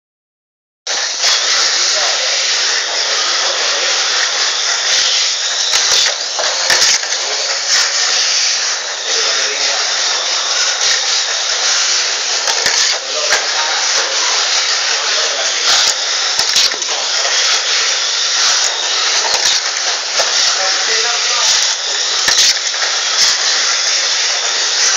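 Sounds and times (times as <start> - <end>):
toy car motors buzzing: 0.9 - 24.9
toy cars clacking on track walls: 1.0 - 24.9.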